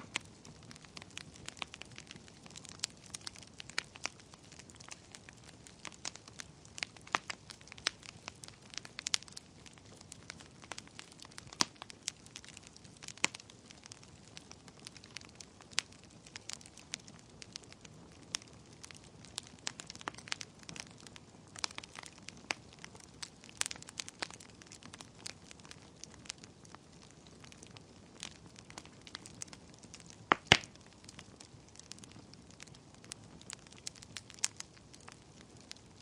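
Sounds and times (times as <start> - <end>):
soft steady hiss: 0.0 - 36.0
wood fire crackling and popping: 0.0 - 36.0.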